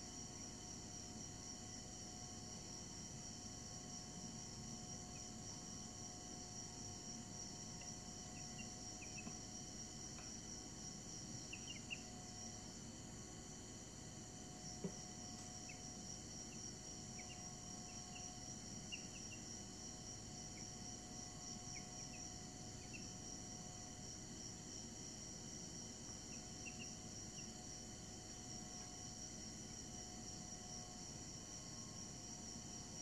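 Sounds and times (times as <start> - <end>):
steady high-pitched hum: 0.0 - 33.0.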